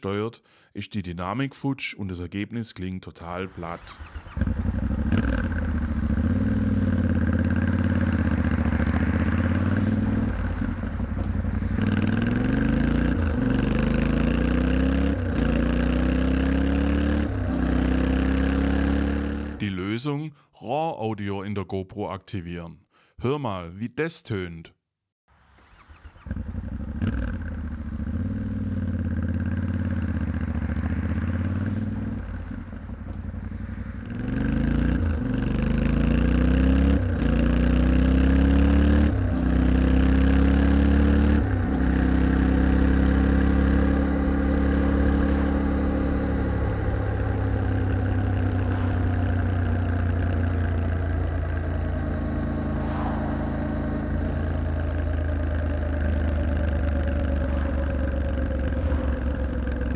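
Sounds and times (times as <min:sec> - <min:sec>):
vehicle engine accelerating: 0:03.2 - 0:19.8, 0:25.3 - 0:59.9.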